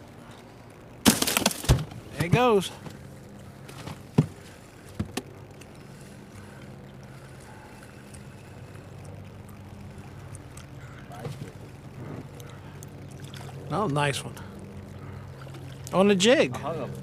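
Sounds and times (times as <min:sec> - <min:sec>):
boat engine humming: 0:00.0 - 0:17.0
water and wind noise: 0:01.8 - 0:17.0.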